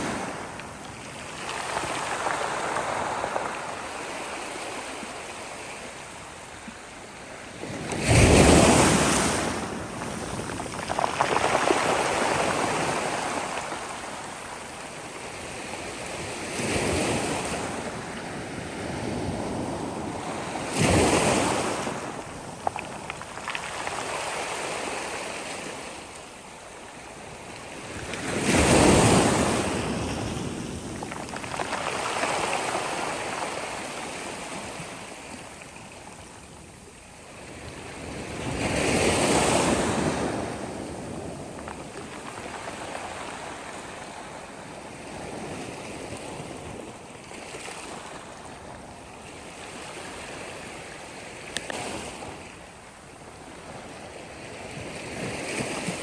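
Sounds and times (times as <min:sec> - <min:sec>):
sea waves crashing on shore: 0:00.0 - 0:56.0.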